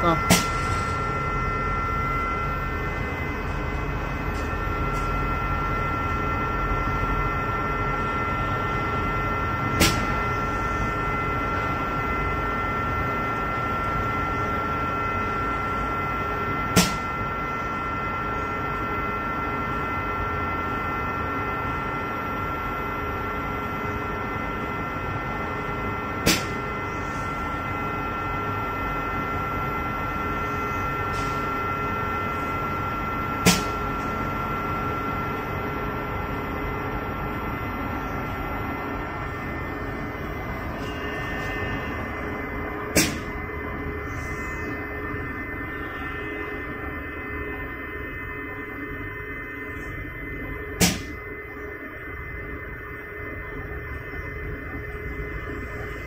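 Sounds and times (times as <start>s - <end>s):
machine humming and whining: 0.0s - 56.0s.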